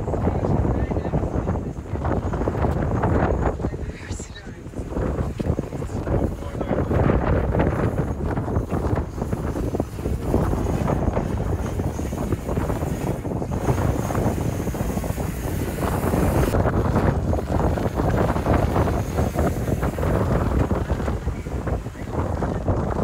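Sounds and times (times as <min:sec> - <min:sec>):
sea breeze buffeting microphone: 0:00.0 - 0:23.0.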